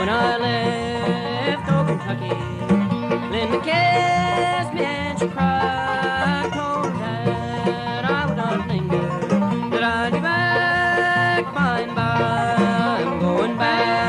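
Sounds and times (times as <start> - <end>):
banjo: 0.0 - 14.0
bluegrass band playing: 0.0 - 14.0.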